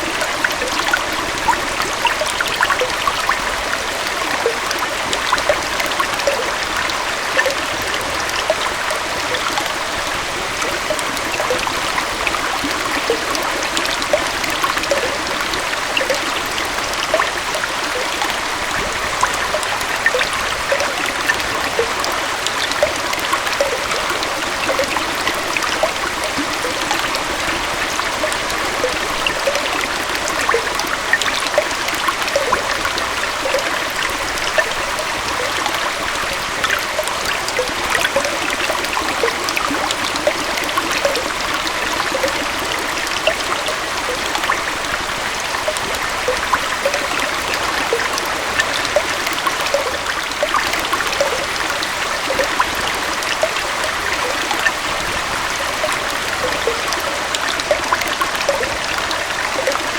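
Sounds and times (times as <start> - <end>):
small waterfall and stream flowing: 0.0 - 59.9.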